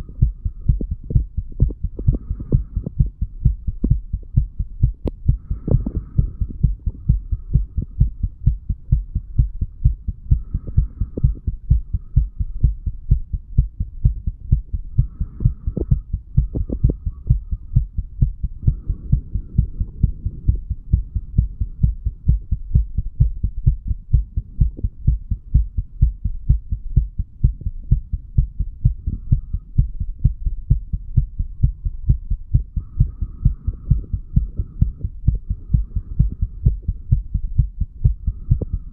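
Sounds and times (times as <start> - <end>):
heartbeat thuds: 0.0 - 38.9.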